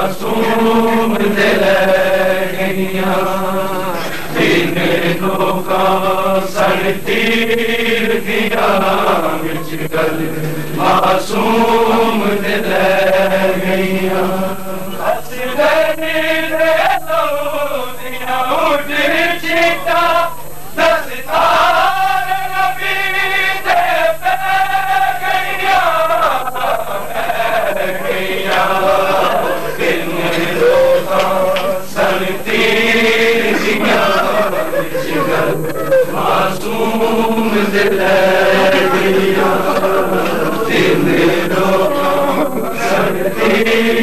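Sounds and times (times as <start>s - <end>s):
men chanting a lament: 0.0s - 44.0s.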